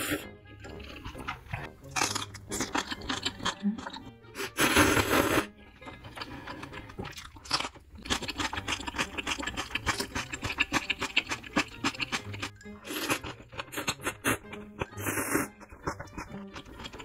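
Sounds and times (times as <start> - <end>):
noodle slurp: 0.0 - 17.0
wet chewing clicks: 0.7 - 4.1, 5.8 - 17.0.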